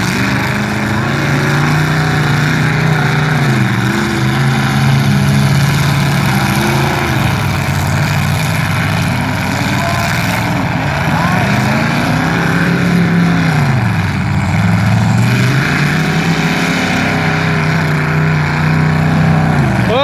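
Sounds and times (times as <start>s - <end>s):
car engines running hard: 0.0s - 20.0s.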